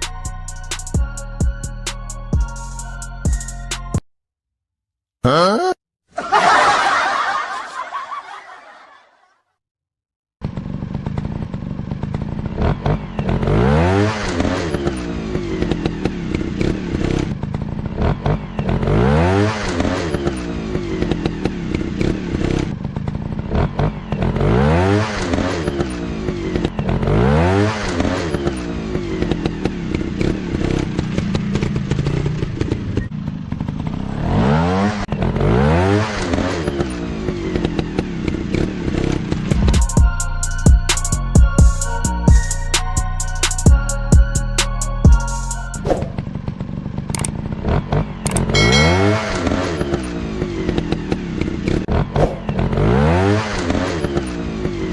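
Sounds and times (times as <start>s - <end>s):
motorbike engines revving: 10.4s - 54.9s.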